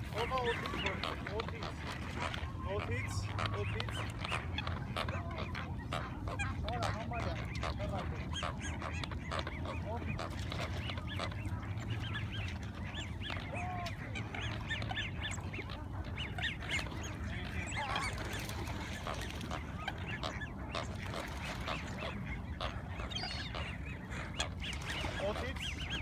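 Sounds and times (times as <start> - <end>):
gulls and ducks calling: 0.0 - 26.0.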